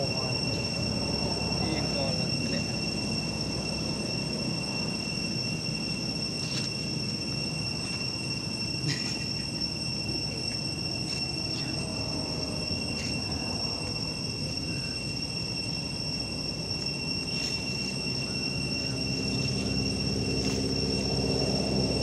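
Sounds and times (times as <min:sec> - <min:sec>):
insects calling high-pitched: 0:00.0 - 0:22.0
low background rumble: 0:00.0 - 0:22.0.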